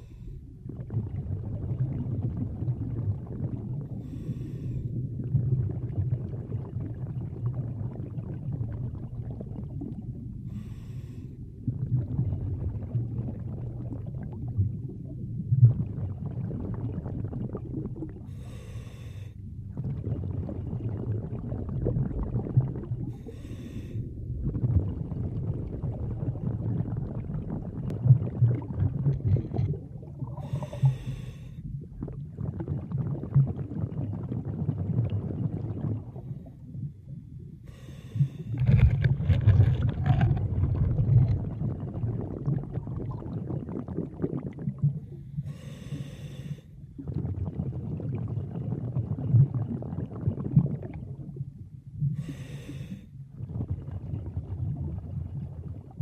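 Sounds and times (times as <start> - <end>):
underwater water rumble: 0.0 - 56.0.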